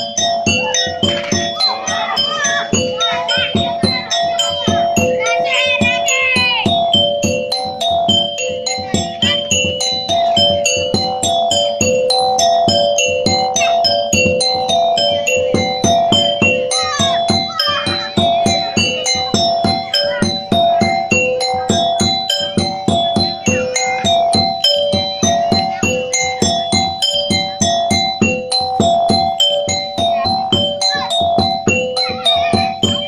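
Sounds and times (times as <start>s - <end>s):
fast melody of struck notes: 0.0s - 33.0s
steady beat: 0.0s - 33.0s.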